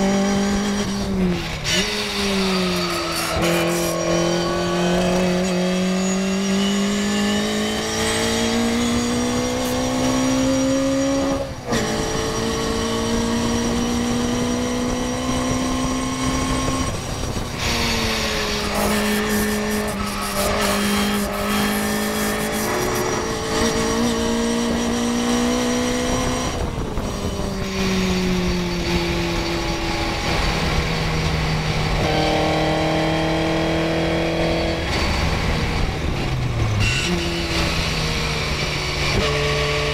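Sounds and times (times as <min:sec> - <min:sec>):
wind rush: 0:00.0 - 0:39.7
racing car engine under load: 0:00.0 - 0:39.9.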